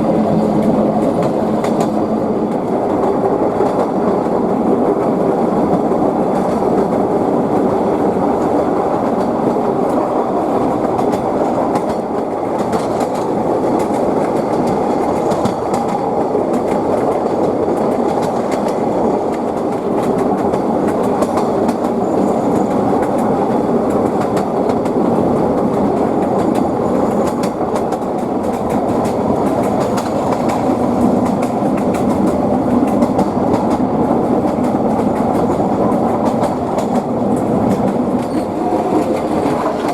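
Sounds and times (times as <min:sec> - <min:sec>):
train running noise: 0:00.0 - 0:39.9
train wheels knocking on rail joints: 0:00.0 - 0:39.9.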